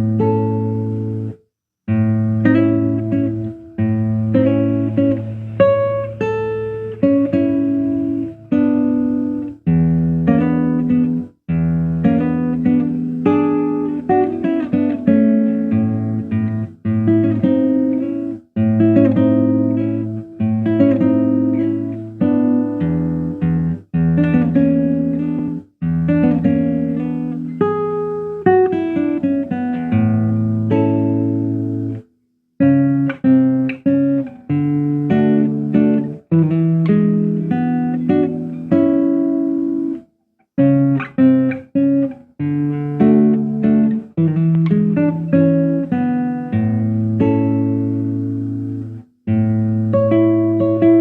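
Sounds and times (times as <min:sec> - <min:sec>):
fingerstyle acoustic guitar: 0:00.0 - 0:51.0.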